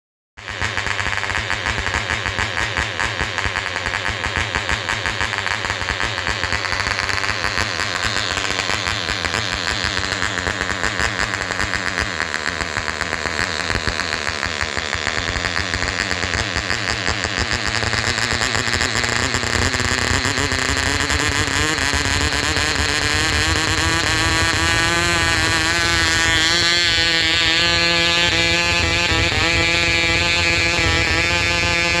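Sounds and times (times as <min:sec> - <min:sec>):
model engine running: 0:00.4 - 0:32.0.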